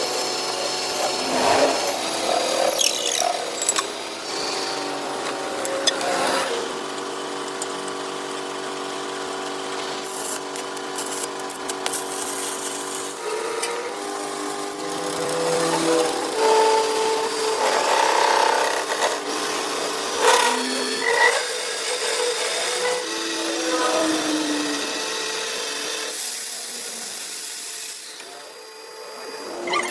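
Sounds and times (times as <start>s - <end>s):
lathe tool cutting with squeals: 0.0s - 7.2s, 13.1s - 29.9s
metal lathe humming: 0.0s - 10.5s, 13.0s - 29.6s.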